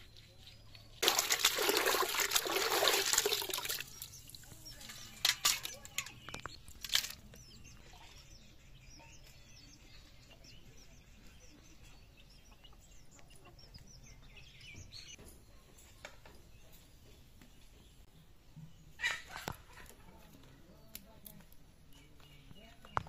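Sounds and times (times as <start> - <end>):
quiet outdoor background noise: 0.0 - 23.0
faint bird chirps: 3.5 - 23.0.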